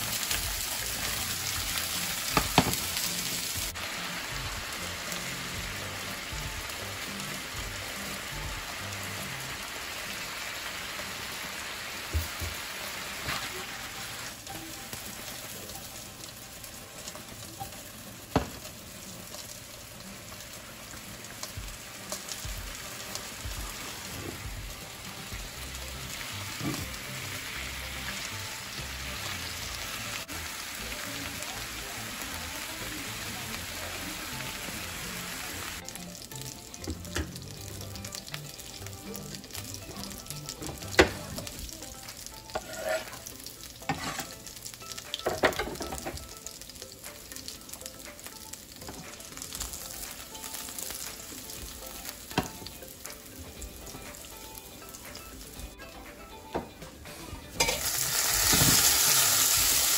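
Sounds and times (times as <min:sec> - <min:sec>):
vegetables sizzling in frying pan: 0:00.0 - 0:55.8, 0:57.5 - 0:59.9.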